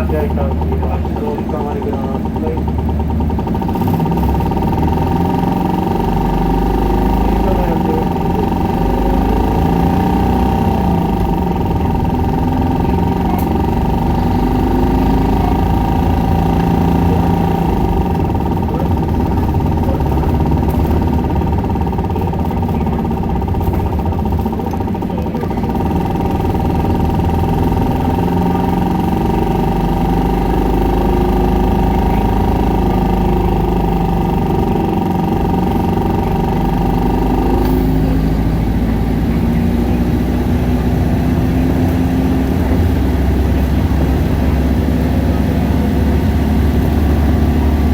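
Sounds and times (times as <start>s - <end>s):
bus diesel engine: 0.0s - 47.9s.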